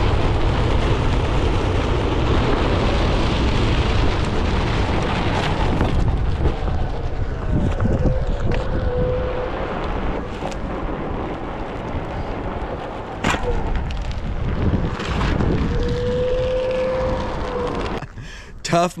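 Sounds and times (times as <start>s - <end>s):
tyre rumbling on asphalt: 0.0s - 18.5s
wind buffeting microphone: 0.0s - 18.7s.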